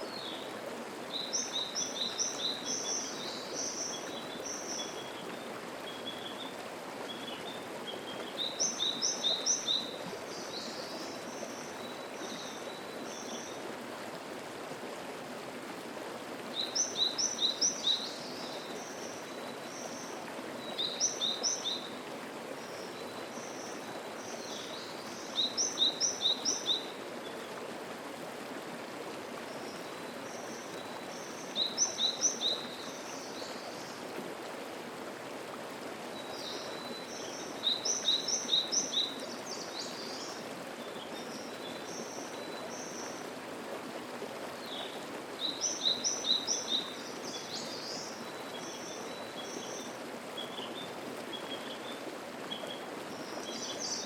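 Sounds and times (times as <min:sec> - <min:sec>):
mountain stream flowing: 0:00.0 - 0:54.0.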